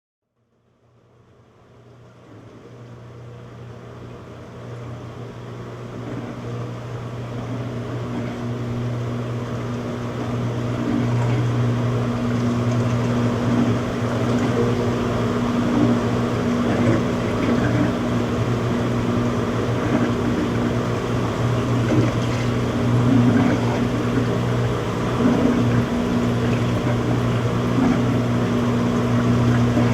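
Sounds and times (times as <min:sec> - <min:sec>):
washing machine spinning: 0:01.4 - 0:29.9.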